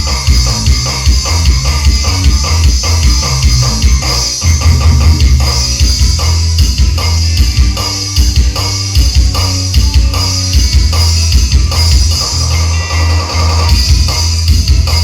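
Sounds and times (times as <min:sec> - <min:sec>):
rock song with pulsing bass: 0:00.0 - 0:15.0.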